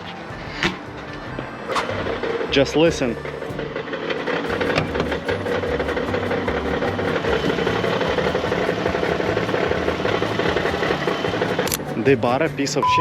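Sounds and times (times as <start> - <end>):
knocking engine idling: 1.0 - 12.7.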